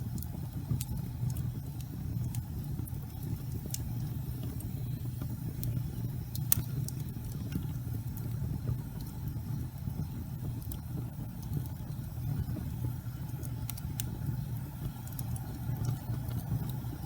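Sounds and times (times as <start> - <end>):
fire crackling and popping: 0.0 - 17.0
low rumble of flame: 0.0 - 17.0.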